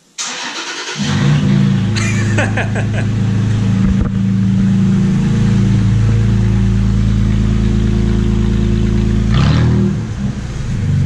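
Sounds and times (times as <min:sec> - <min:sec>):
loud engine idling: 0:01.0 - 0:11.0.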